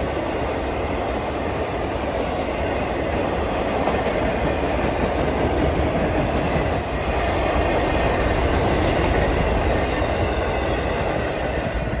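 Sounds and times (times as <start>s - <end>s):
freight train cars rolling past: 0.0s - 12.0s.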